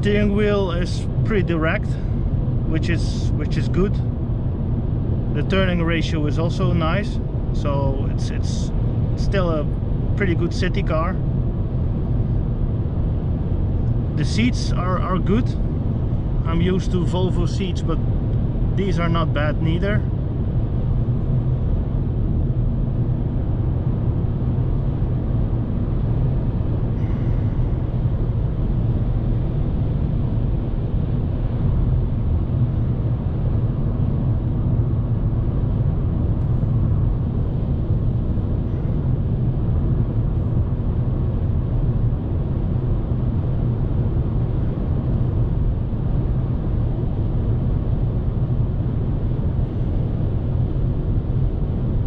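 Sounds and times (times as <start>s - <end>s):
car engine in cabin: 0.0s - 52.0s
road and wind noise: 0.0s - 52.0s.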